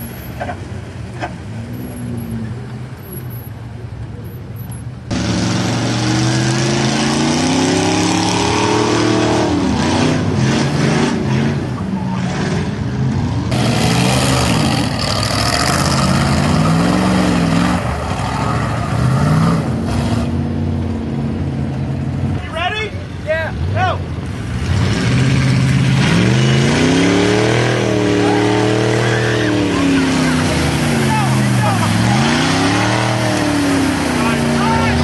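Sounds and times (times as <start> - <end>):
truck engines revving: 0.0 - 35.0.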